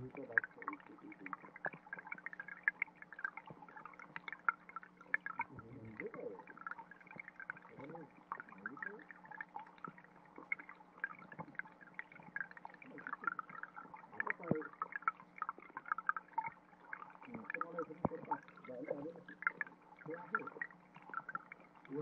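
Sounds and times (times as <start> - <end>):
faint low hum: 0.0 - 22.0
low water gurgles: 0.0 - 22.0
underwater trickling stream: 0.0 - 22.0.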